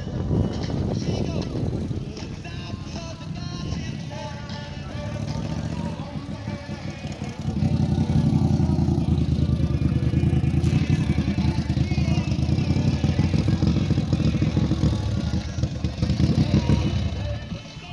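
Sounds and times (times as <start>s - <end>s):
lawnmower engines running: 0.0s - 17.9s.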